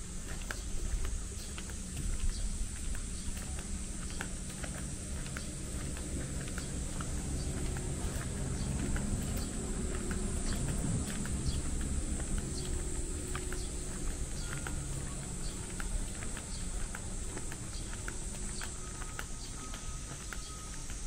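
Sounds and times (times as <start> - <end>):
footsteps on stone pavement: 0.0 - 21.0
low outdoor rumble: 0.0 - 21.0.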